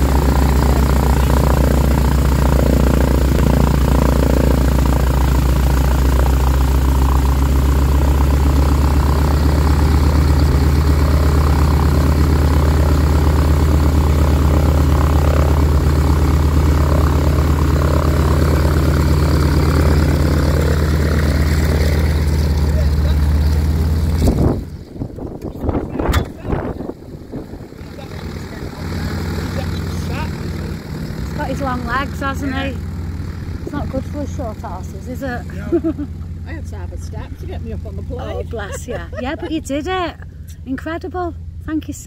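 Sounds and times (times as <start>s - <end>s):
plane radial engine idling: 0.0s - 42.0s.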